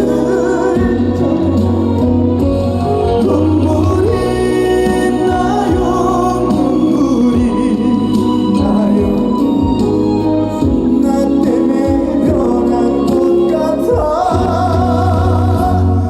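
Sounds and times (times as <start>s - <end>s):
trot ballad live performance: 0.0s - 16.0s.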